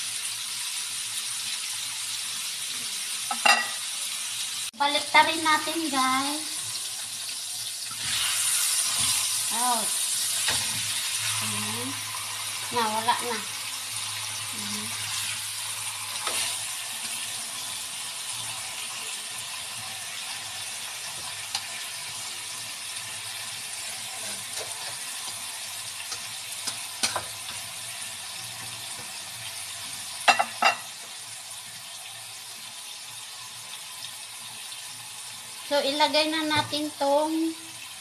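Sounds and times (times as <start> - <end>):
chicken sizzling in a wok: 0.0 - 38.0.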